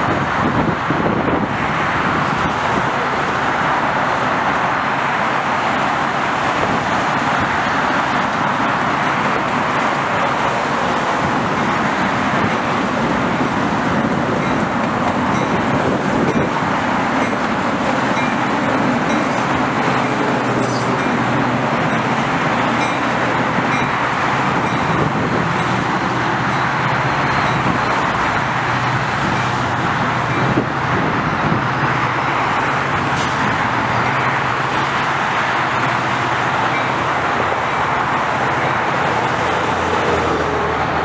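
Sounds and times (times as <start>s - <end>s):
road traffic noise: 0.0s - 41.0s
train passing: 0.0s - 41.0s.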